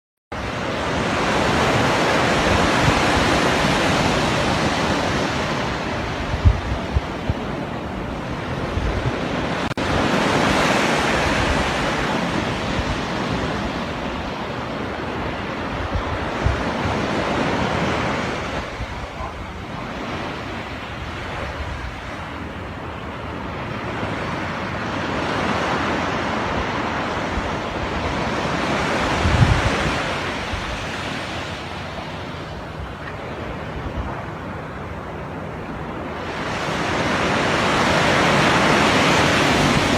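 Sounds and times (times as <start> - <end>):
ocean waves breaking: 0.3 - 39.9
wind buffeting microphone: 0.3 - 39.9.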